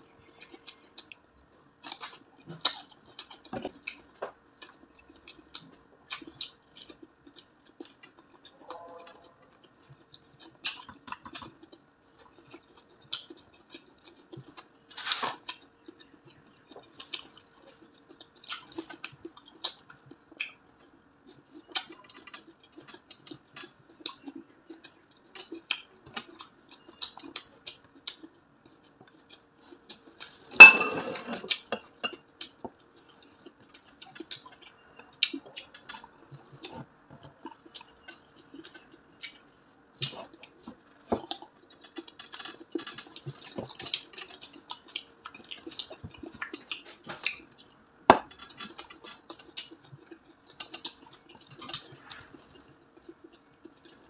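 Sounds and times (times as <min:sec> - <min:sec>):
chewing crispy food: 0:00.0 - 0:30.7, 0:31.3 - 0:54.0.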